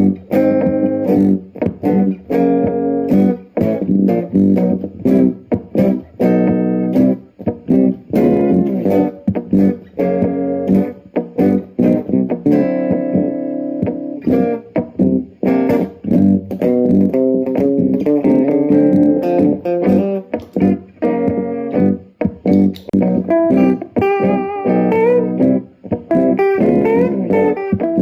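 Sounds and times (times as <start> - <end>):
acoustic guitar with octave-down tone: 0.0 - 28.0.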